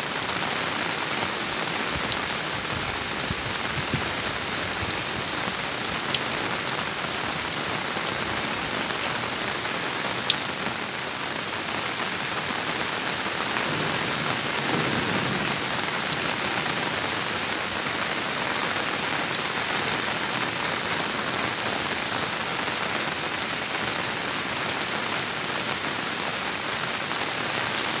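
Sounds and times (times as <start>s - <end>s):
rain on a sheet roof: 0.0s - 28.0s.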